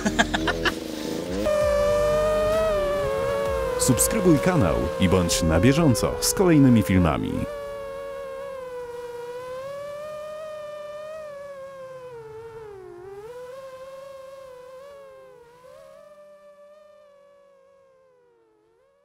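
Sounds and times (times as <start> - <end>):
drone motors humming: 0.0 - 19.0.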